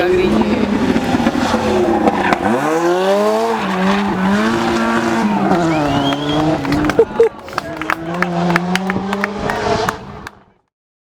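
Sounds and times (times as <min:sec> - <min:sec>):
rally car engine at high revs: 0:00.0 - 0:10.6.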